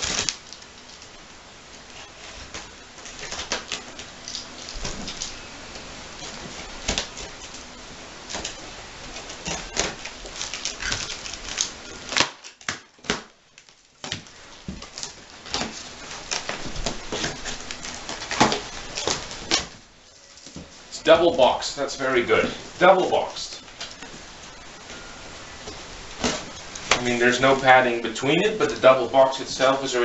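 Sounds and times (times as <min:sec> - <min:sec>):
packing tape crackling: 0:00.0 - 0:30.0.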